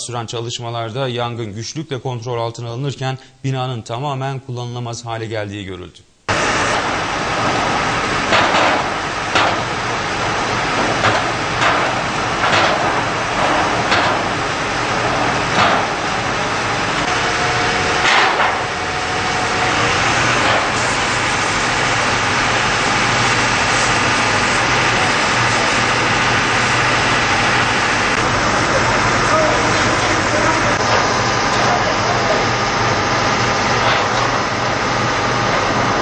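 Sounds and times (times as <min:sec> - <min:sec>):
fire engines running: 0:06.3 - 0:36.0.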